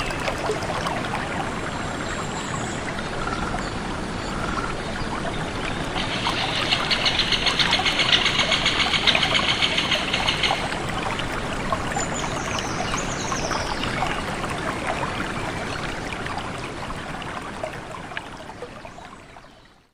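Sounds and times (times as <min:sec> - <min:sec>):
stream of water running: 0:00.0 - 0:19.9.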